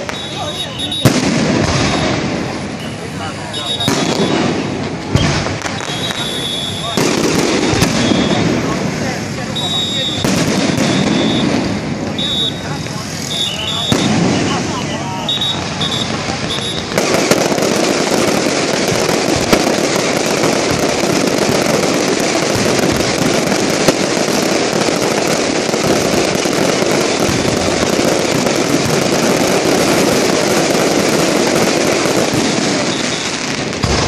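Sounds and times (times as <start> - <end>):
sharp firework pops: 0.0 - 2.9, 3.7 - 34.0
fireworks crackling: 0.0 - 34.0.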